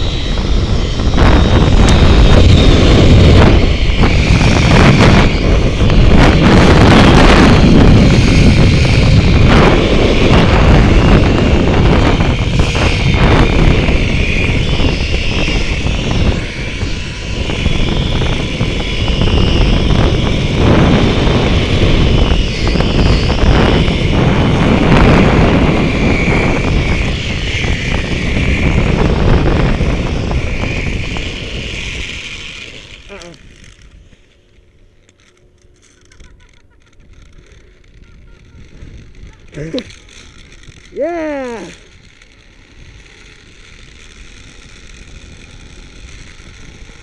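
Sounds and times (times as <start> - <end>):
wind buffeting microphone: 0.0 - 47.0
zip-line pulleys whirring: 0.0 - 47.0.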